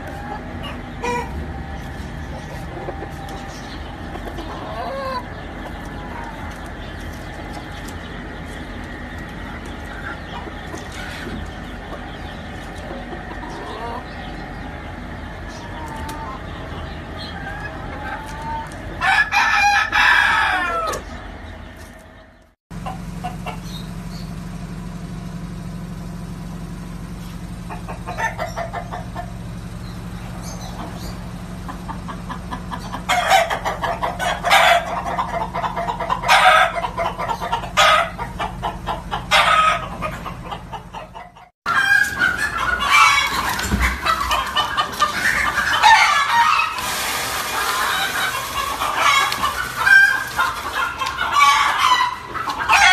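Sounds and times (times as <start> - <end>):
steady low hum: 0.0 - 19.0, 21.0 - 52.7
chickens clucking: 0.0 - 52.9.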